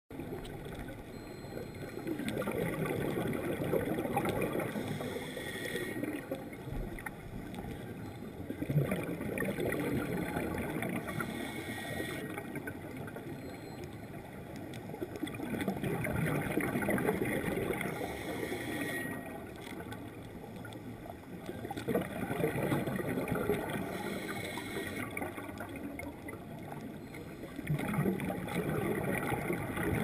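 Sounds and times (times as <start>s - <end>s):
muffled underwater churning rumble: 0.1s - 30.0s.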